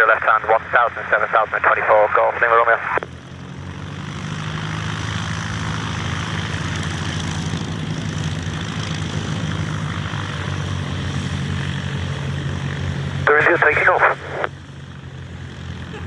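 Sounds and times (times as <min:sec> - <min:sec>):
propeller aircraft engine: 0:00.0 - 0:16.0.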